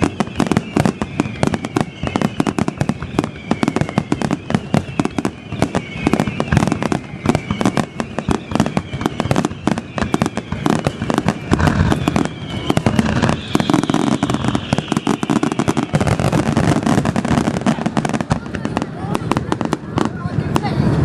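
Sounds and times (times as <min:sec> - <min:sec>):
faint firework whistle: 0:00.0 - 0:21.0
fireworks bangs and crackling: 0:00.0 - 0:21.0.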